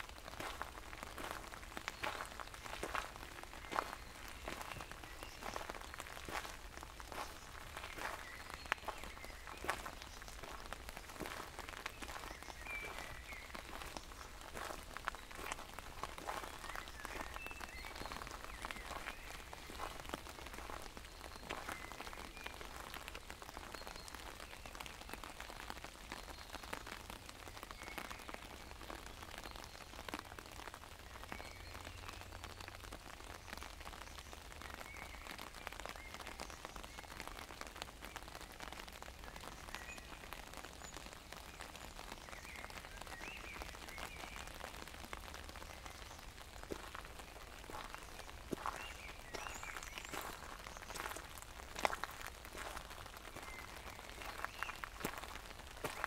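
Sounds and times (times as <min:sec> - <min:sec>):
rain on an umbrella: 0:00.0 - 0:56.0.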